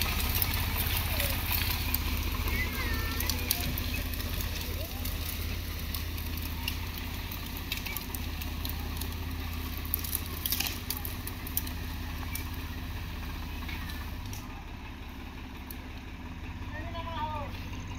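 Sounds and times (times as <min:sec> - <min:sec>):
crackles and clicks: 0:00.0 - 0:16.1
tractor diesel engine running: 0:00.0 - 0:17.9.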